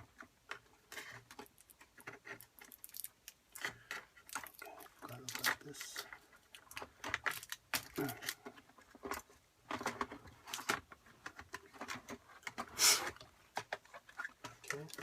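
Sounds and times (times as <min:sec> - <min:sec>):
hands clicking and tapping parts: 0:00.0 - 0:15.0.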